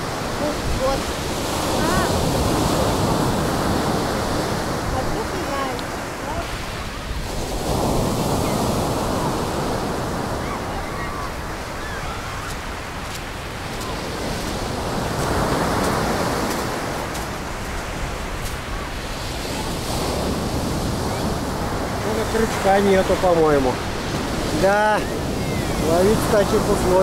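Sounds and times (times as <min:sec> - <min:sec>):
storm surf breaking on beach: 0:00.0 - 0:27.0.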